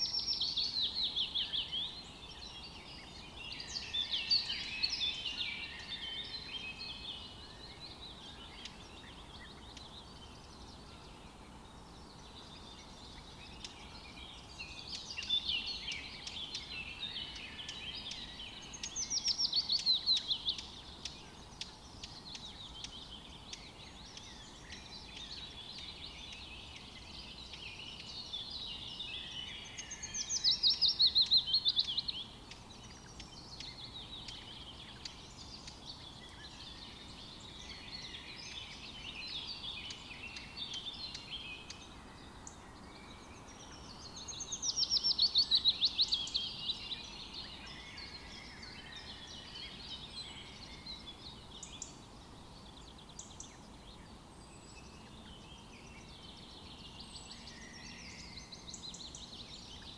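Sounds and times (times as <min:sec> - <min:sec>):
chorus of faint bird calls: 0:00.0 - 0:59.9.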